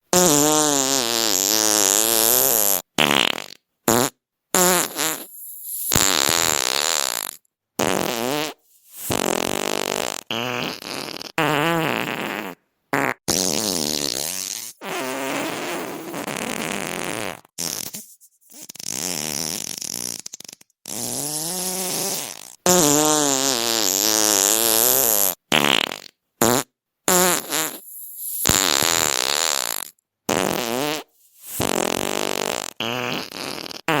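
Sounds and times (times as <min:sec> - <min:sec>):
fart sound effects: 0:00.1 - 0:34.0.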